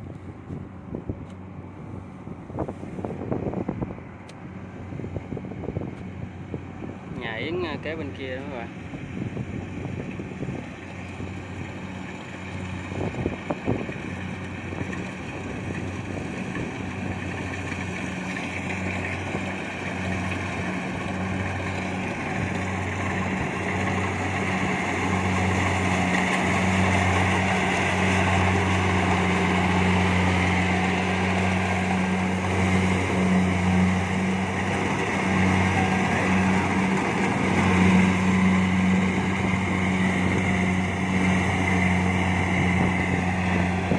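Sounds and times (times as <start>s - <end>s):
combine harvester engine running: 0.0s - 43.9s.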